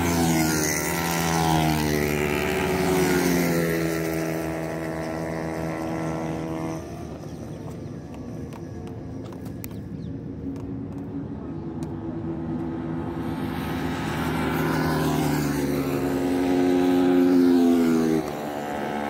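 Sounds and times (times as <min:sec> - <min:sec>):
racing motorcycle speeding past: 0:00.0 - 0:08.8, 0:11.2 - 0:19.0.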